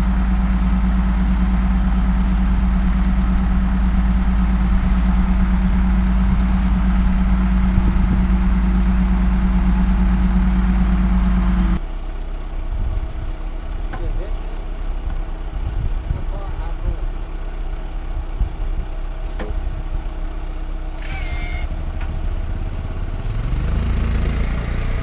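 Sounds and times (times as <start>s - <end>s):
heavy machinery engine running: 0.0s - 25.0s
quieter lower engine sound: 0.0s - 25.0s.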